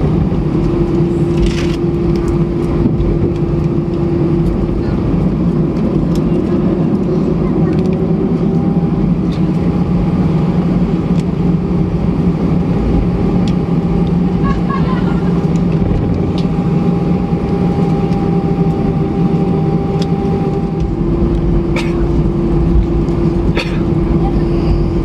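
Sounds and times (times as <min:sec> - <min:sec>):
jet engine cabin hum: 0:00.0 - 0:25.0.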